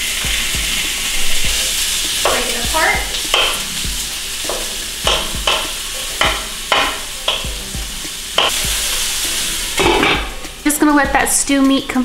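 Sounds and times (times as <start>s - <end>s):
beef sizzling in a skillet: 0.0s - 12.0s.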